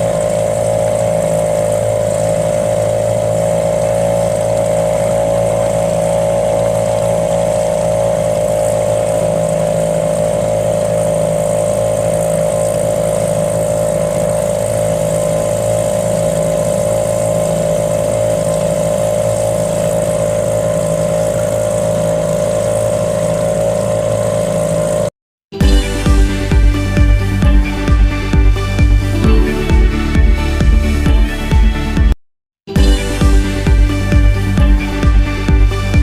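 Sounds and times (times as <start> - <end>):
motor humming: 0.0 - 32.1, 32.7 - 36.0.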